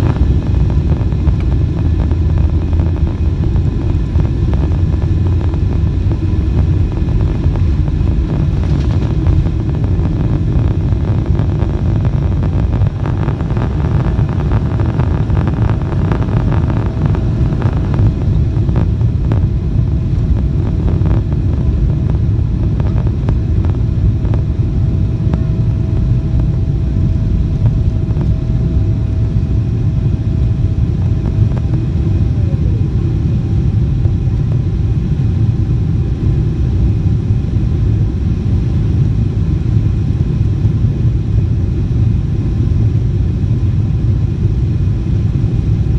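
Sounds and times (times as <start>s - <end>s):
aircraft cabin engine rumble: 0.0s - 45.9s
faint engine whine: 0.0s - 45.9s.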